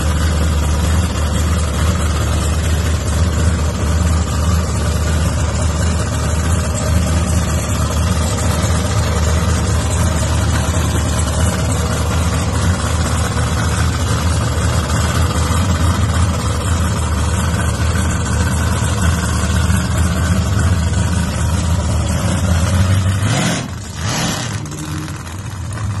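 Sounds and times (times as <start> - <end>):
car engine running loud: 0.0 - 26.0.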